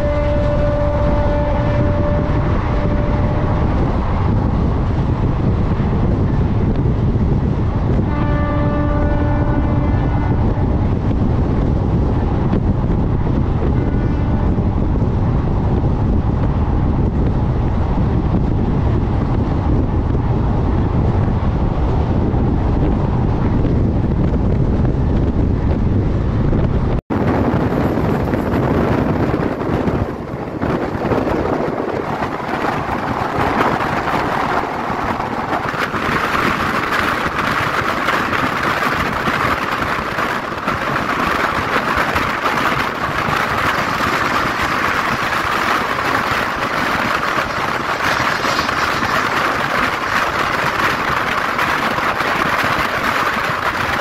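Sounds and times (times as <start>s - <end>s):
train wheels rumbling: 0.0s - 54.0s
wind on microphone: 0.0s - 54.0s.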